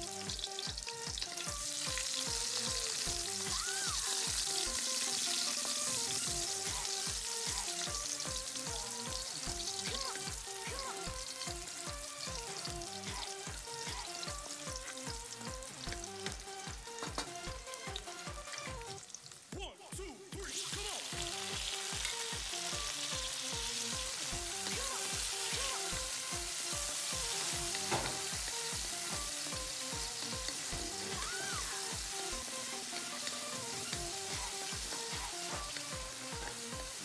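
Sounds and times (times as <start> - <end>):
vegetables sizzling in hot oil: 0.0 - 19.6, 20.4 - 37.0
background music with steady beat: 0.0 - 37.0.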